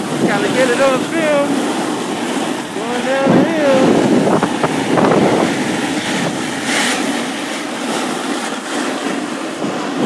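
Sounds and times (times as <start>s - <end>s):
snowboard scraping over snow: 0.0s - 10.0s
wind on microphone: 0.0s - 10.0s.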